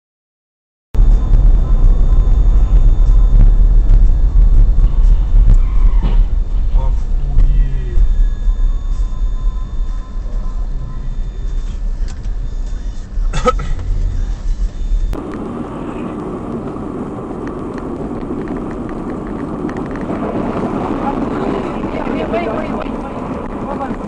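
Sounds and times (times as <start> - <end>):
car driving rumble: 1.0 - 24.0
road and wind noise: 1.0 - 24.0.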